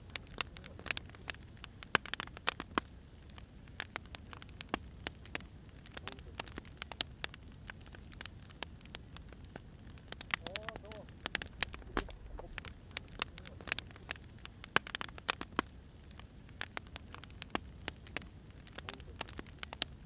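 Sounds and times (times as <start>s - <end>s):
firewood crackling: 0.0s - 20.0s.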